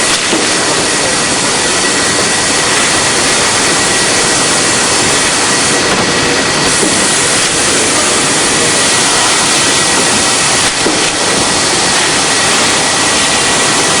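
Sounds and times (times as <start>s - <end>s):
machine mechanical rush: 0.0s - 14.0s
thin high whine: 0.0s - 14.0s.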